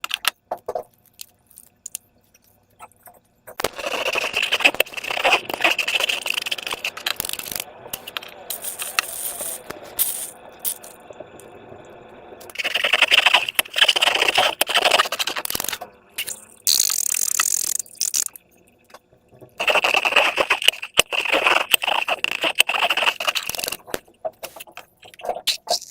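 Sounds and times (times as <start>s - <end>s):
sticky clicks and scraping: 0.0s - 11.0s, 12.4s - 25.9s.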